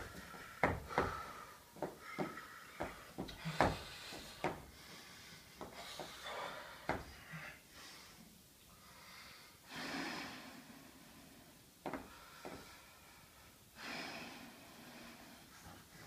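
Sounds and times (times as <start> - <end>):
forceful breaths: 0.0 - 16.0.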